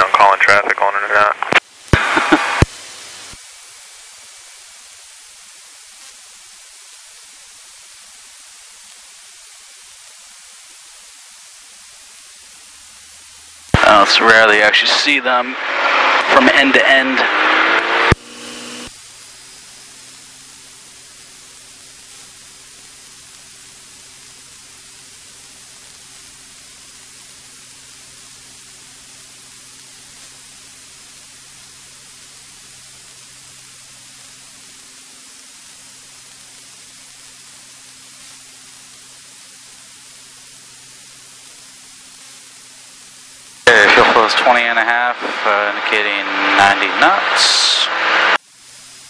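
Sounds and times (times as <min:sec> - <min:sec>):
faint aircraft engine drone: 0:00.0 - 0:03.8, 0:11.0 - 0:49.0
headset audio hiss: 0:00.0 - 0:49.0.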